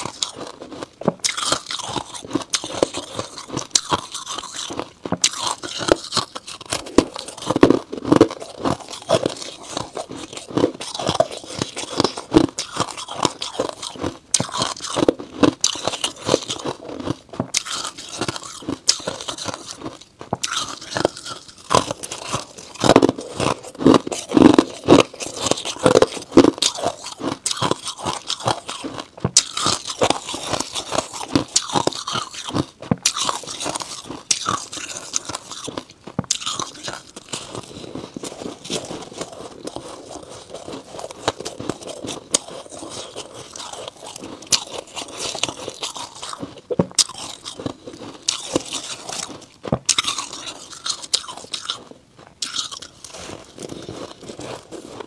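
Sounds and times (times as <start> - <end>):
crunching frost being chewed: 0.0 - 55.0.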